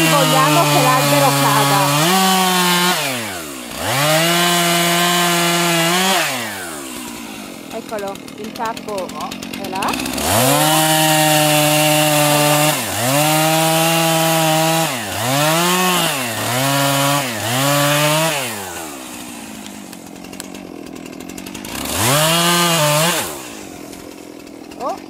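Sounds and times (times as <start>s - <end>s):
chainsaw cutting tree trunk: 0.0s - 25.0s.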